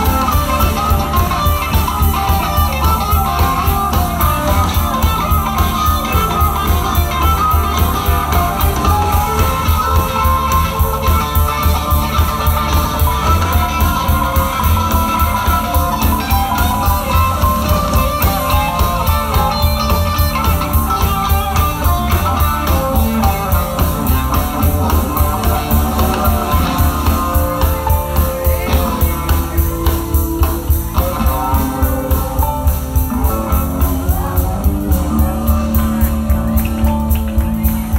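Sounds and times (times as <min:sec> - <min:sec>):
electric bass: 0:00.0 - 0:37.9
electric guitar: 0:00.0 - 0:37.9
steady drum beat: 0:00.0 - 0:37.9.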